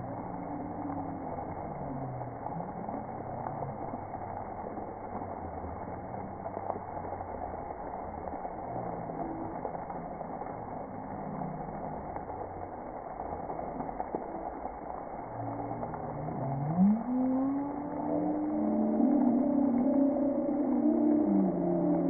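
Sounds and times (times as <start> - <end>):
water spraying: 0.0 - 22.0.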